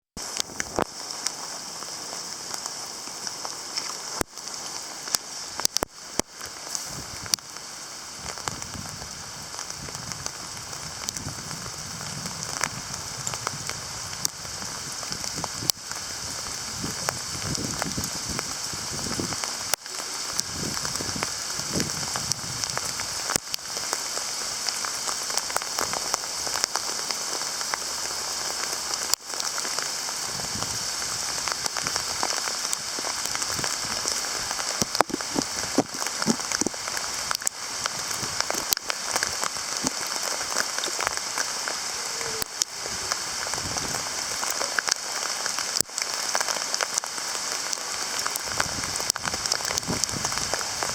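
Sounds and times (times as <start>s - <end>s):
hail pattering: 0.2s - 50.9s.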